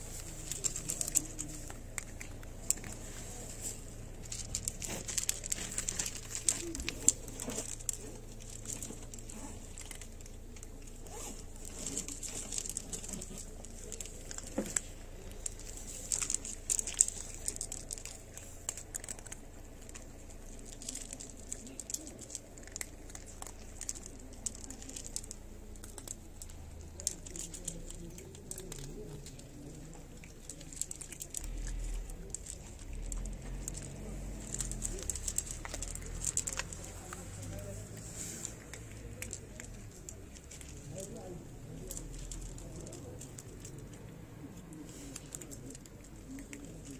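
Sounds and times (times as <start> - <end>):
cats crunching dry kibble: 0.0 - 46.9.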